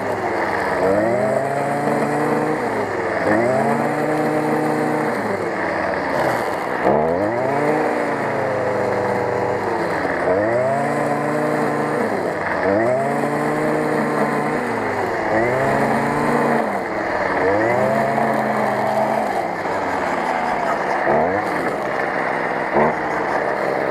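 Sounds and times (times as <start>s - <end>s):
brush cutter engine at high revs: 0.0s - 23.9s
nylon line cutting grass: 0.0s - 23.9s.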